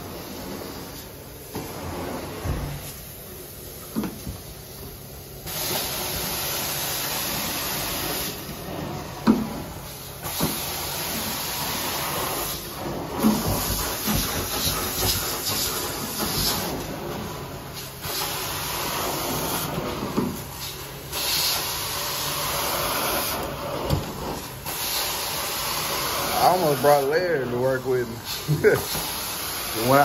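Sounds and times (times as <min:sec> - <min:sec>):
carpet cleaner suction and spray hiss: 0:00.0 - 0:30.0.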